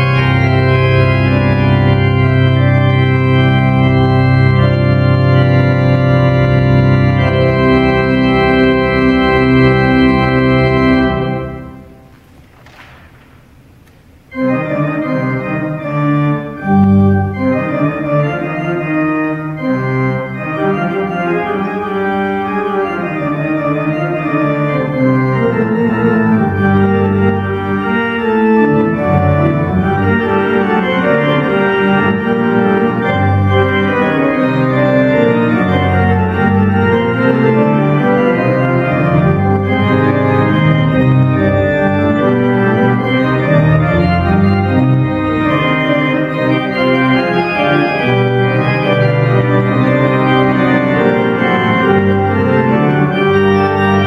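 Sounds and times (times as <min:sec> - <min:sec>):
pipe organ playing chords: 0:00.0 - 0:54.0.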